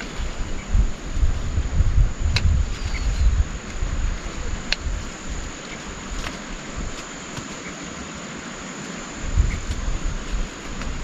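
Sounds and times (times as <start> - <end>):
high-pitched insect drone: 0.0 - 11.0
outdoor hiss: 0.0 - 11.0
wind buffeting microphone: 0.0 - 11.0.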